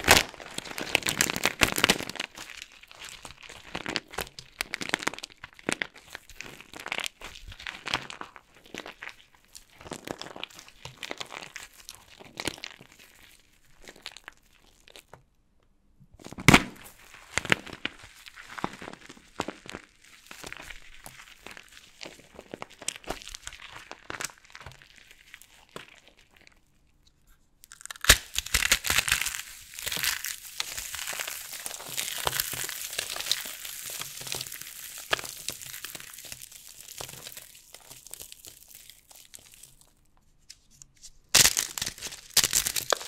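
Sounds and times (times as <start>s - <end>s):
dry soap crunching and crackling: 0.0s - 15.2s, 16.2s - 43.0s.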